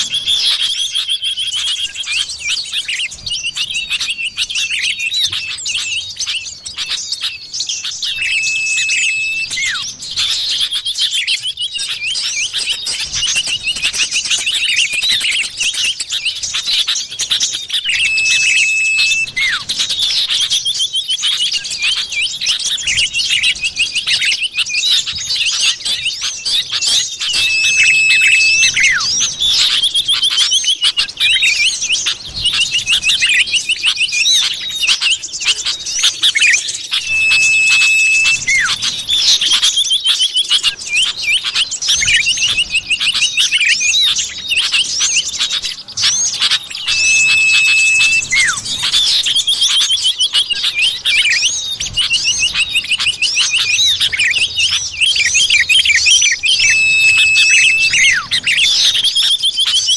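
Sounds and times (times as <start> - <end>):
bird chirps and trills: 0.0 - 59.9
long level bird whistle: 0.0 - 59.9.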